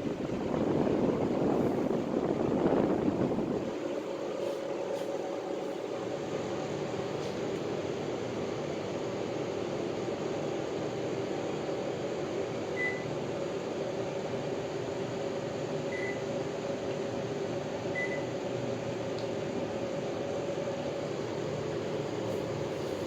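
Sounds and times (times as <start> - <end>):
air conditioner fan hum: 0.0 - 23.0.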